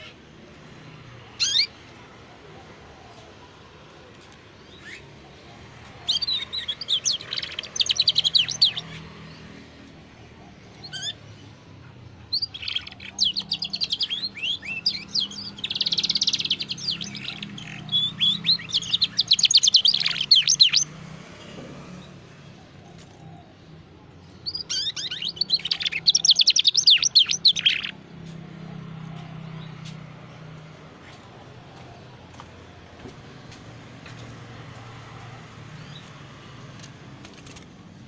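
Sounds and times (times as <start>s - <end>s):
canary singing in trills: 0.0s - 3.6s, 4.2s - 31.2s.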